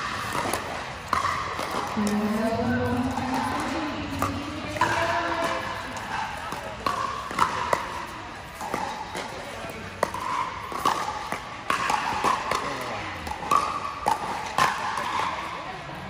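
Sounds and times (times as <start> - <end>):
paddles hitting plastic ball: 0.0 - 15.4.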